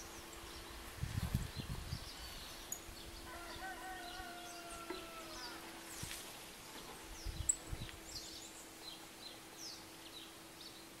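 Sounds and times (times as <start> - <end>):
faint steady hum: 0.0 - 11.0
small birds chirping: 0.0 - 11.0.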